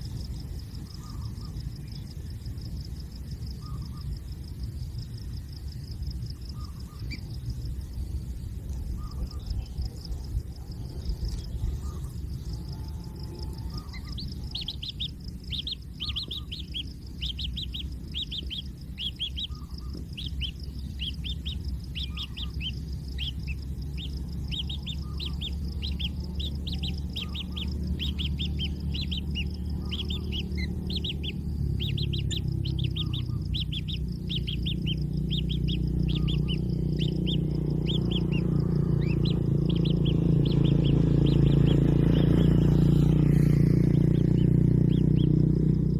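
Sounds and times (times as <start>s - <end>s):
low rumble: 0.0s - 45.9s
steady high whine: 0.0s - 45.9s
chicks chirping: 8.8s - 45.9s.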